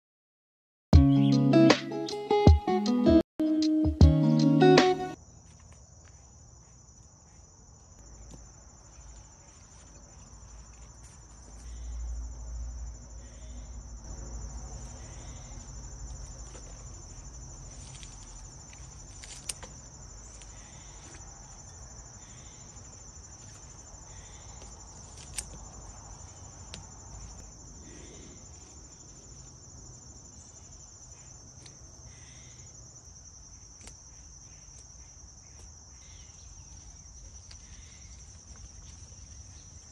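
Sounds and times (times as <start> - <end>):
insects trilling: 4.4 - 39.9.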